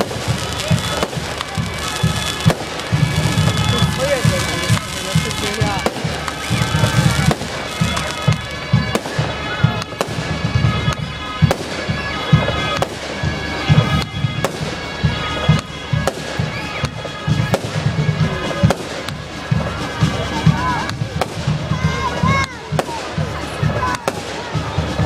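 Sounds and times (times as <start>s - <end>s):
fireworks bangs and crackles: 0.0s - 25.0s
heavy firework booms: 0.0s - 25.0s.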